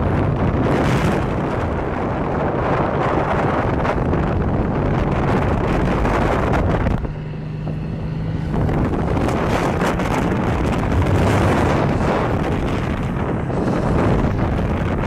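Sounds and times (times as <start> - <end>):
motorcycle engine hum: 0.0 - 15.0
wind rushing over microphone: 0.0 - 15.0.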